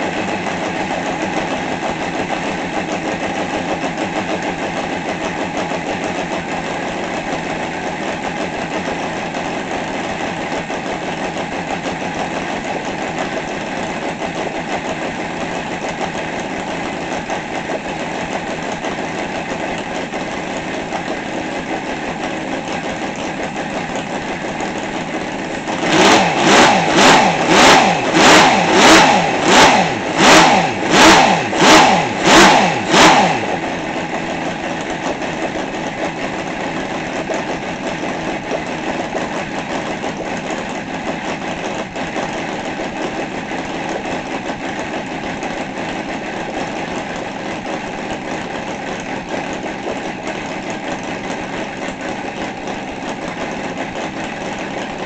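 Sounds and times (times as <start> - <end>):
model aircraft engine idling: 0.0 - 55.0.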